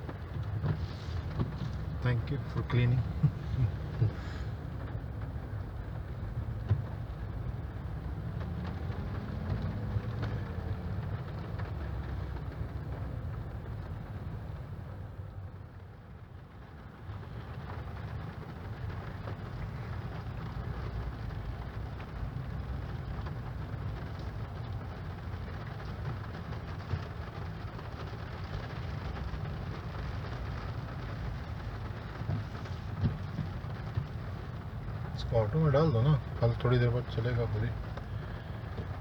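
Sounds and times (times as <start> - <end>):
car rumbling: 0.0 - 39.0
rain falling on a car: 0.0 - 39.0.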